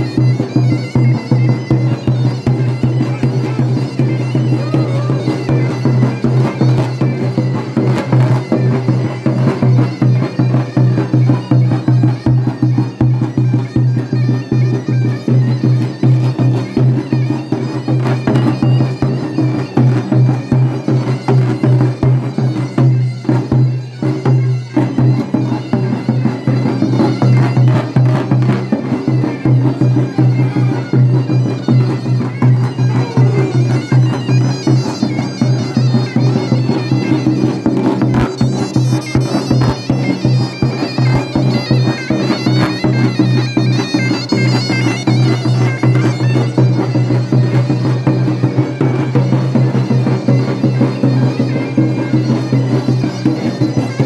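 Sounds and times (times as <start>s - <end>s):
big drum beating quick rhythm: 0.0s - 54.0s
shrill reedy pipe melody: 0.0s - 54.0s.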